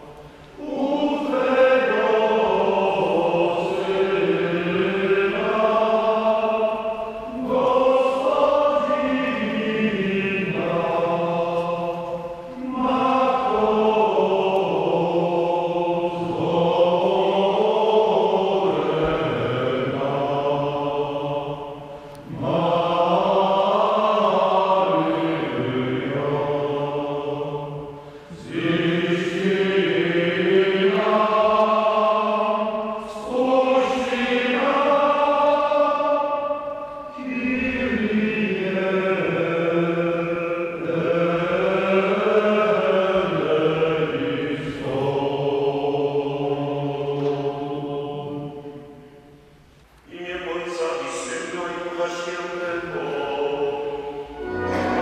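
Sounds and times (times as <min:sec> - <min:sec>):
male voice choir singing: 0:00.0 - 0:49.0, 0:50.1 - 0:55.0.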